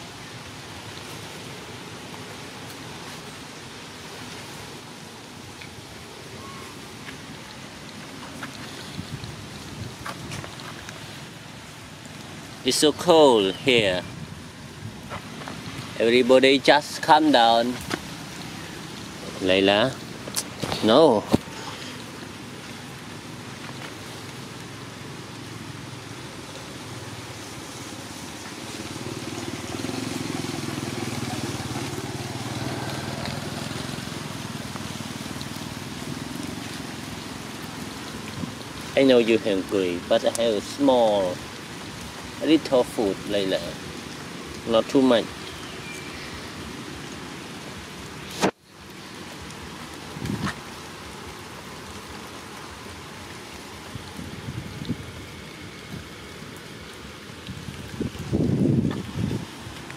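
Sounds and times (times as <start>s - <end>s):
outdoor background noise: 0.0s - 59.9s
rain on wet ground: 0.0s - 59.9s.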